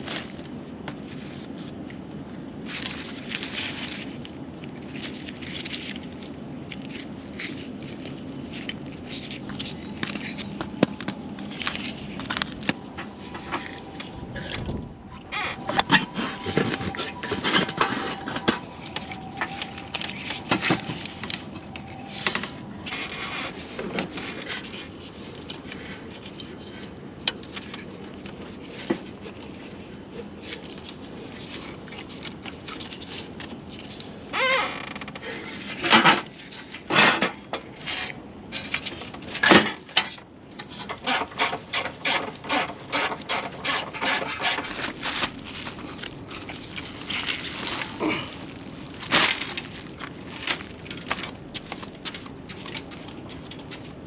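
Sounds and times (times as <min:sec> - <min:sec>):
hand tools and metal clinking: 0:06.7 - 0:29.0, 0:30.4 - 0:54.0.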